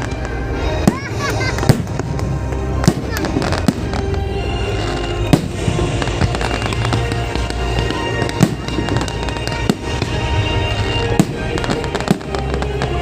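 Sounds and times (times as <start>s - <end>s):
sharp firework bangs: 0.0s - 4.1s, 5.0s - 13.0s
fireworks bursting: 0.0s - 13.0s
music: 0.0s - 13.0s.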